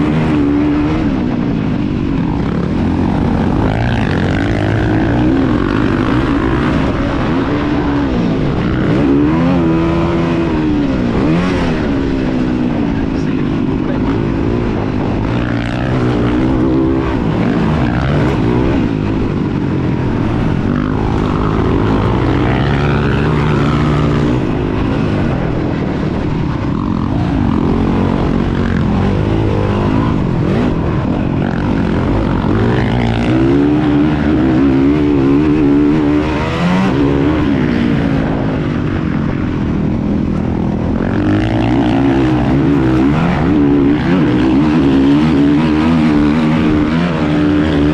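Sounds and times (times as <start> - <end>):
dirt bike engines revving: 0.0 - 47.9.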